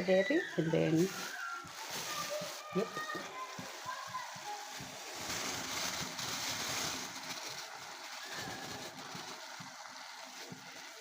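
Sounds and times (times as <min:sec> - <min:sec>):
wet food rushing hiss: 0:00.0 - 0:11.0.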